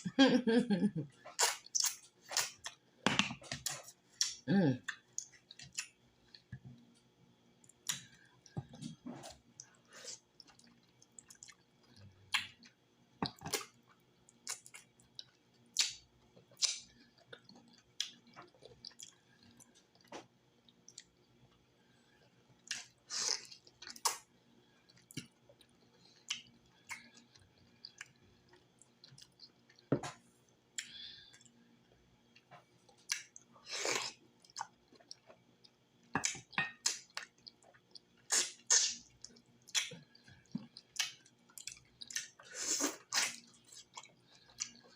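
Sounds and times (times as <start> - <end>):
person chewing: 1.2 - 2.8, 7.6 - 21.4, 22.2 - 44.9.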